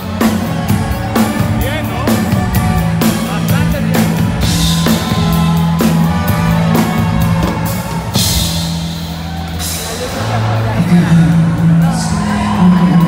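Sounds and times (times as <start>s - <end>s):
live band playing pop ballad: 0.0s - 13.0s.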